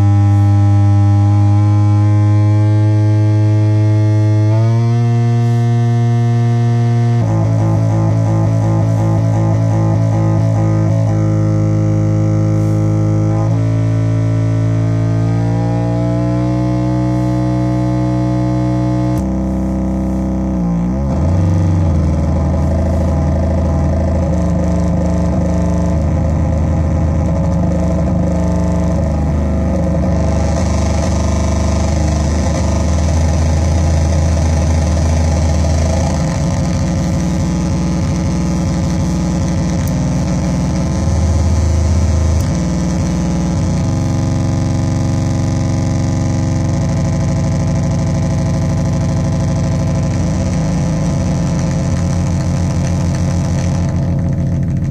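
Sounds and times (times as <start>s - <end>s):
distorted synth drone: 0.0s - 54.9s
synth pitch sweep: 0.0s - 54.9s.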